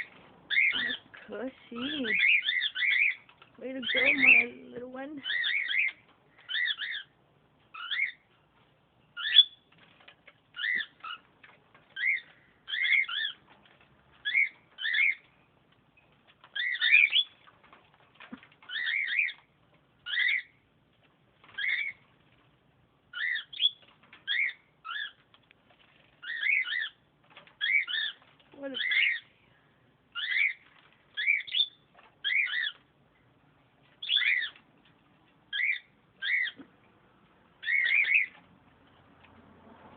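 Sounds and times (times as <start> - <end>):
bird chirping: 0.0 - 20.8, 21.4 - 39.0.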